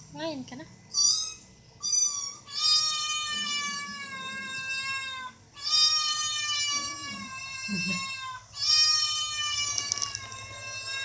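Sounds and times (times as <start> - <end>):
cat meowing: 1.0 - 11.0.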